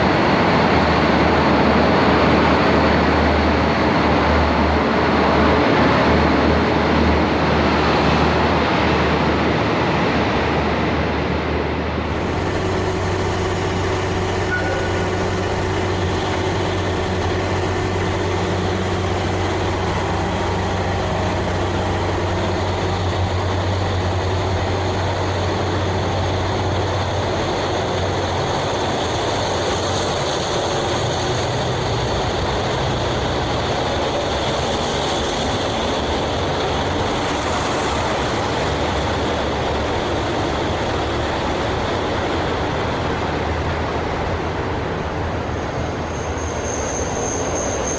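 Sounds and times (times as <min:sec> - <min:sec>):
diesel train engines droning: 0:00.0 - 0:47.9.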